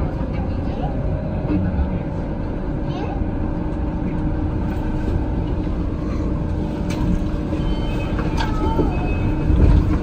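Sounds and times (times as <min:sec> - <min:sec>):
train low rumble and hum: 0:00.0 - 0:10.0.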